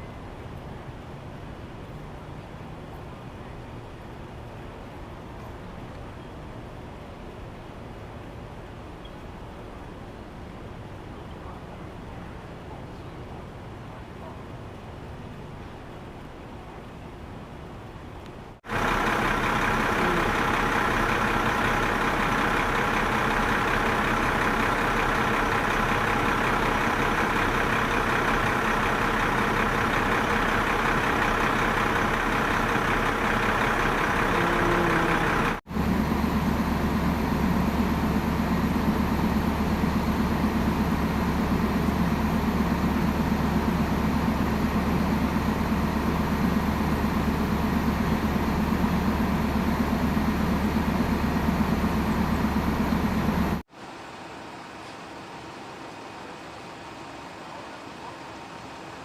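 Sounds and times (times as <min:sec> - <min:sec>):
heavy vehicle engine idling: 0:00.0 - 0:59.0.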